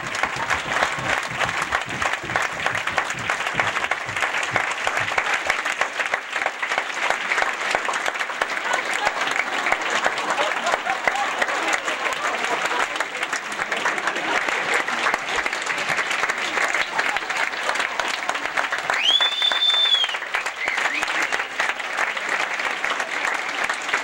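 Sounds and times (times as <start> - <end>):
large audience applauding: 0.0 - 24.0.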